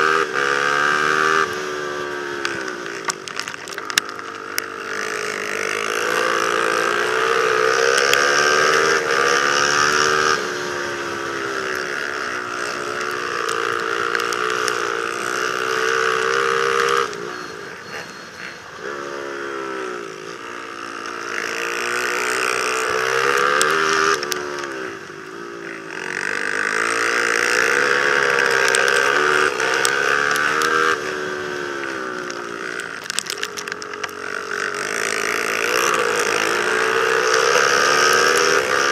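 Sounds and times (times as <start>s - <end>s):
racing quad engine revving: 0.0s - 38.9s.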